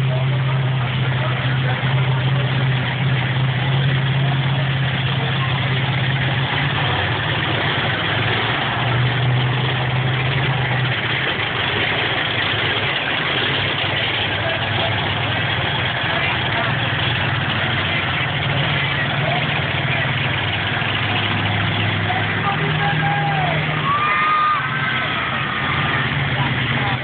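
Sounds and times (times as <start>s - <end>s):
monster truck engine droning: 0.0s - 27.0s.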